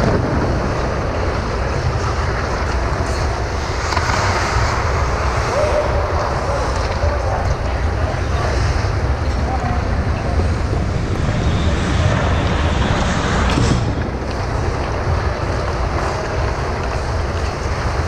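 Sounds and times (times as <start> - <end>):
low rumble: 0.0 - 18.0
steady rushing noise: 0.0 - 18.0.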